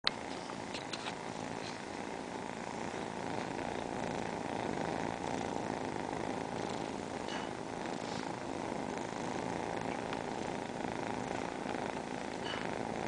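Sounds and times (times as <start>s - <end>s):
kittens purring: 0.1s - 13.0s.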